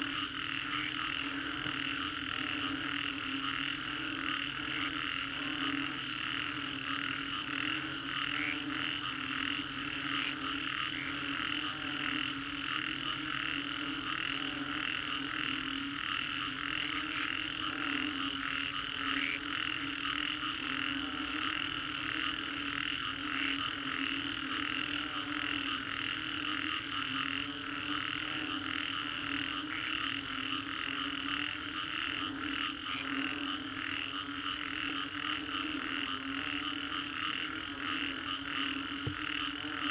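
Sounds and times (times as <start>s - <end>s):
low frog croaking: 0.0s - 39.9s.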